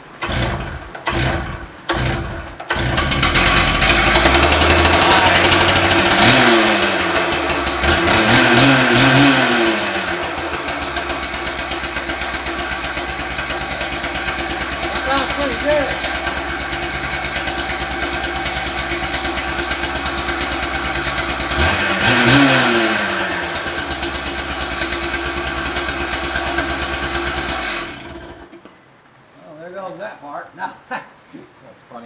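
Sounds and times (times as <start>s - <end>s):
recoil starter pulls: 0.1s - 28.6s
saw engine running and revving: 0.3s - 28.3s.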